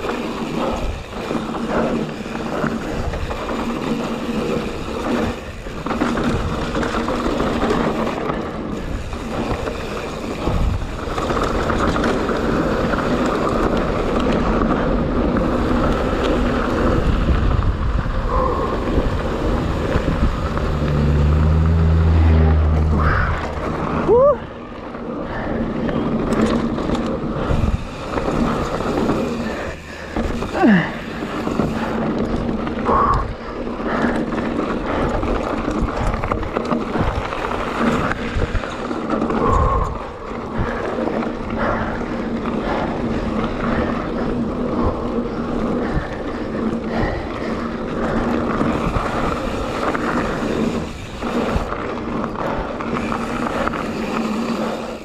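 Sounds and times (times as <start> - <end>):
bike rattling and knocking: 0.0 - 55.0
bike tyres rolling on gravel: 0.0 - 55.0.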